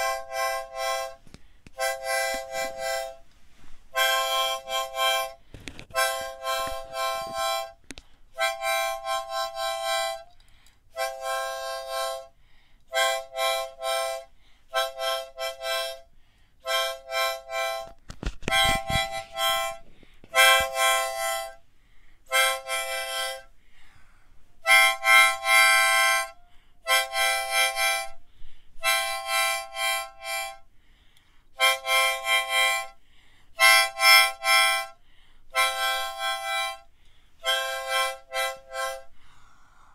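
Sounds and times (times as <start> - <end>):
harmonica playing slow tune: 0.0 - 39.9.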